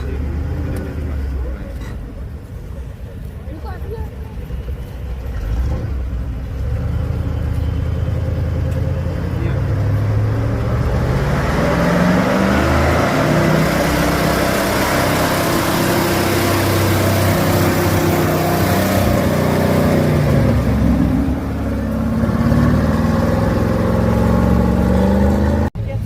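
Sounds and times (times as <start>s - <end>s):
truck engine working under load: 4.2s - 25.7s.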